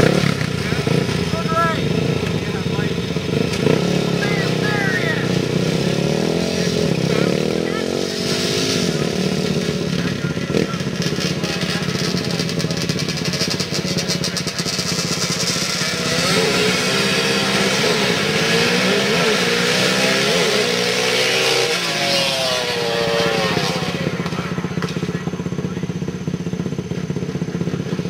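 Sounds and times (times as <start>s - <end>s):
quad engines revving: 0.0s - 28.0s.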